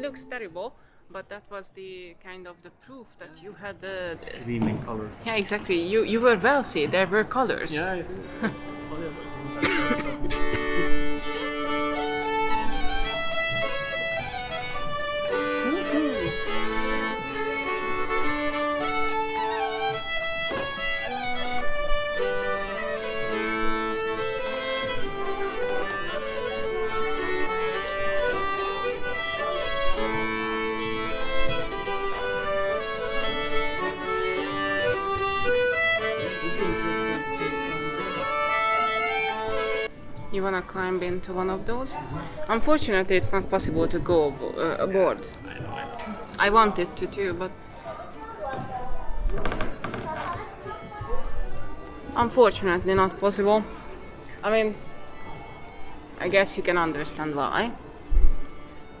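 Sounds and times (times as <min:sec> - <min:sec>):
violin melody with accompaniment: 0:00.0 - 0:01.1, 0:04.5 - 0:59.0.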